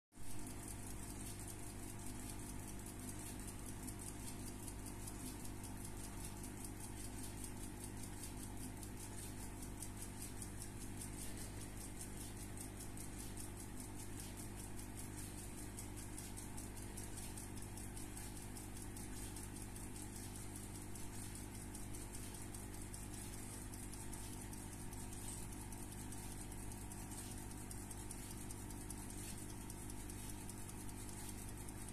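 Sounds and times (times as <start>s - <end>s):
steady low hum: 0.2s - 31.9s
wristwatch ticking: 0.2s - 31.9s.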